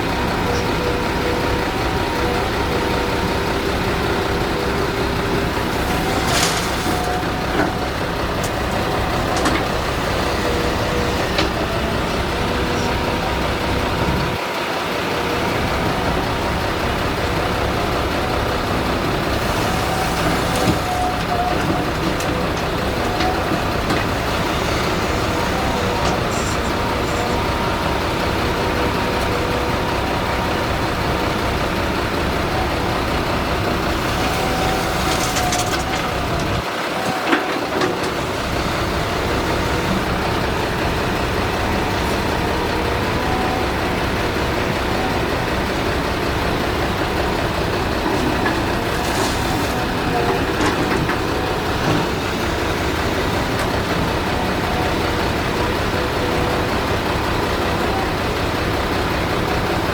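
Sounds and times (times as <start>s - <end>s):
excavator diesel engine running: 0.0s - 59.9s
machinery whine: 0.0s - 59.9s.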